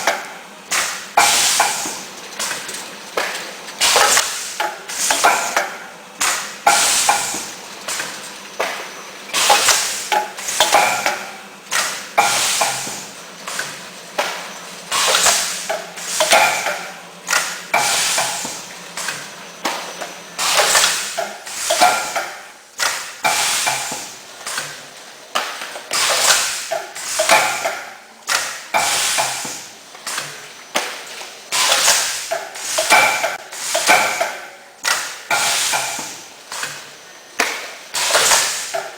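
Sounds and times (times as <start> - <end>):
machine clacks and clatters: 0.0 - 38.9.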